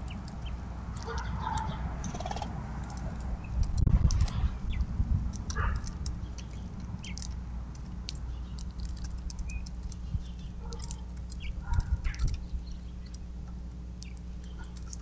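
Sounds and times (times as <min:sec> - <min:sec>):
wings fluttering: 0:00.0 - 0:13.3, 0:14.0 - 0:15.0
birds pecking seeds: 0:00.0 - 0:15.0
steady low hum: 0:00.0 - 0:15.0.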